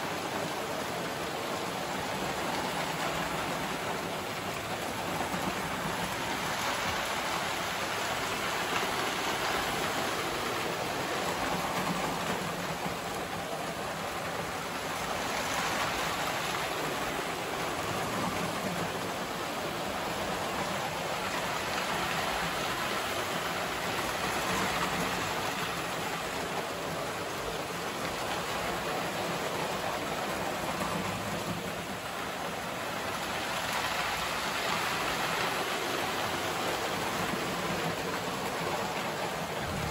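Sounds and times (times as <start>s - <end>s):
model trains running on metal track: 0.0s - 39.9s.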